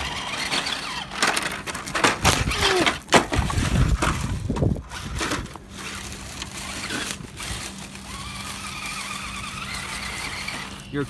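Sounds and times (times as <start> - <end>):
twigs and gravel crunching: 0.0 - 11.0.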